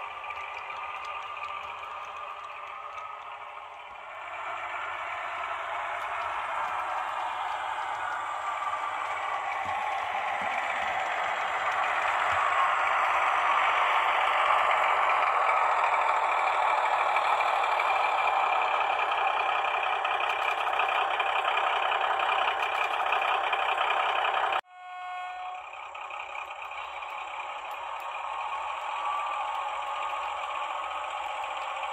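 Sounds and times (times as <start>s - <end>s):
model train rattling on track: 0.0s - 24.7s, 25.3s - 31.9s.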